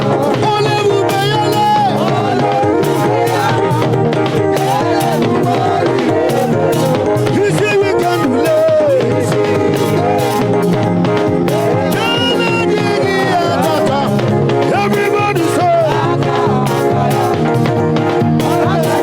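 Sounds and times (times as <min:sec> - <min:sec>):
band playing upbeat gospel: 0:00.0 - 0:19.0
person singing: 0:00.0 - 0:19.0.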